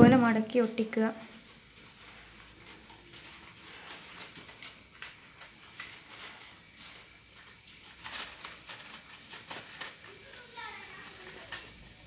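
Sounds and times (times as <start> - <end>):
paper crackling and rustling: 0.0 - 12.0.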